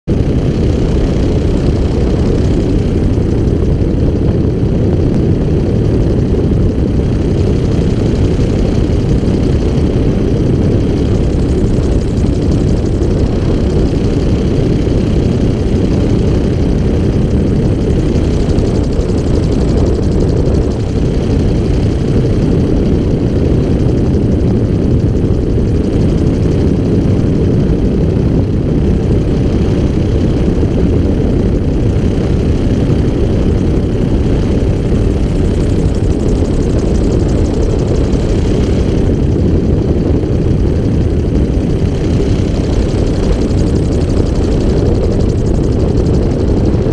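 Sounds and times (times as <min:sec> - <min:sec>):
gyrocopter engine droning: 0:00.0 - 0:46.9
rush of airflow: 0:00.1 - 0:46.9.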